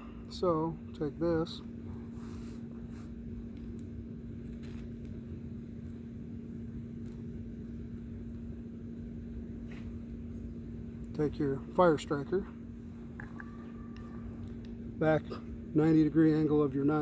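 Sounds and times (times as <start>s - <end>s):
low hum and rumble: 0.0s - 17.0s.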